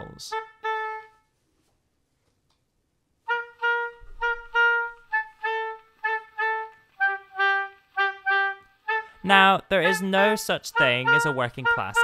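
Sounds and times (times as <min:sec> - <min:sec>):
solo oboe melody: 0:00.0 - 0:01.4, 0:03.2 - 0:12.0.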